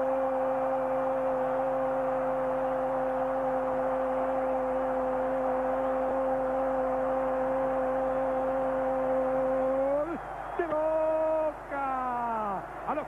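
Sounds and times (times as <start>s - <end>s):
stadium crowd celebrating: 0.0s - 13.0s.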